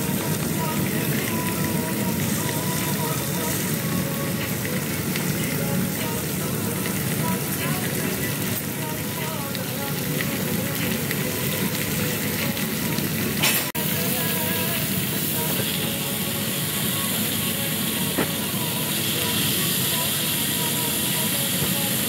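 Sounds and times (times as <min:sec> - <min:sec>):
steaks sizzling in oil: 0:00.0 - 0:22.0.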